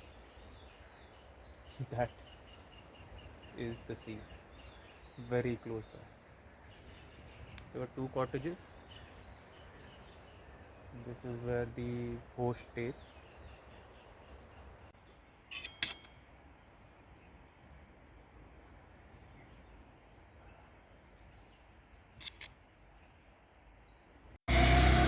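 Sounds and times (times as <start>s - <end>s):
high insect drone: 0.0s - 22.6s.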